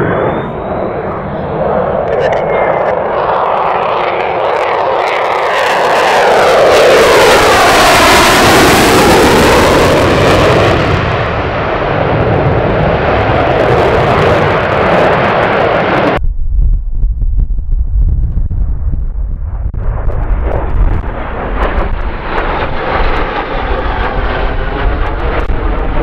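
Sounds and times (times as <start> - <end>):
deep rumble of jets: 0.0 - 26.0
jet engines passing low: 0.0 - 26.0.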